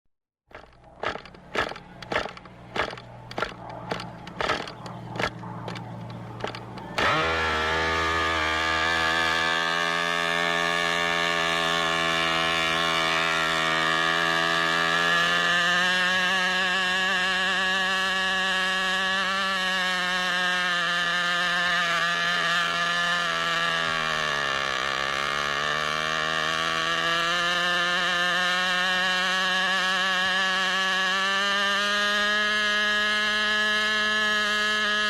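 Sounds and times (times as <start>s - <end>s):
model airplane engine: 0.5s - 35.0s.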